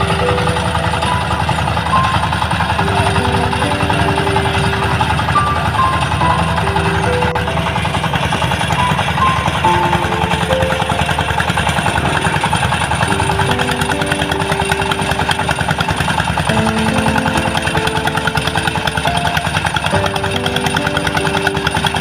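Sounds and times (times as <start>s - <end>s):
held tones shifting in pitch: 0.0s - 22.0s
rice thresher engine pulsing: 0.0s - 22.0s.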